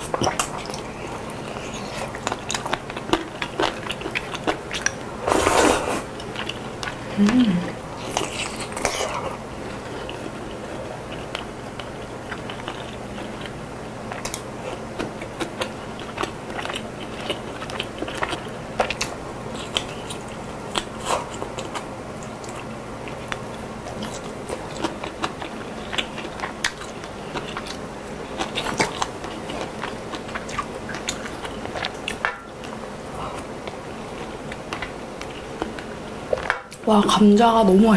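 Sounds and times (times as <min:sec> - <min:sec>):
person chewing noodle soup: 0:00.0 - 0:36.8.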